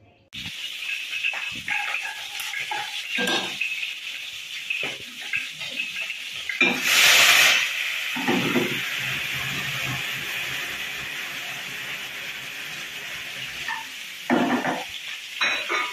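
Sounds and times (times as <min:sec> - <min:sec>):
oil sizzling in a pan: 0:00.4 - 0:15.9.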